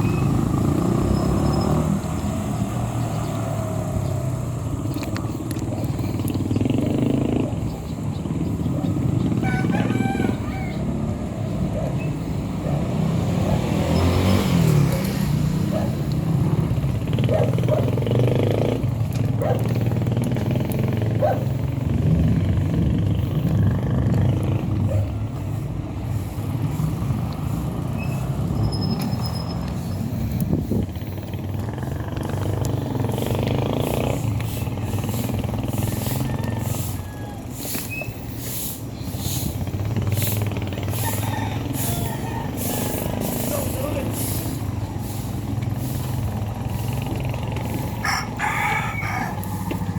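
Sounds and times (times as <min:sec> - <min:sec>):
motorcycle engine running: 0:00.0 - 0:49.9
road and traffic noise: 0:00.0 - 0:49.9.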